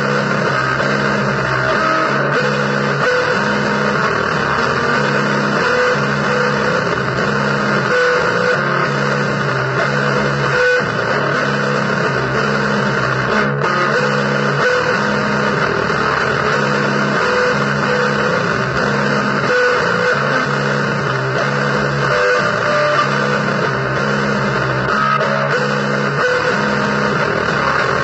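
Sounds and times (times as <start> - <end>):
electric guitar riff: 0.0 - 28.0.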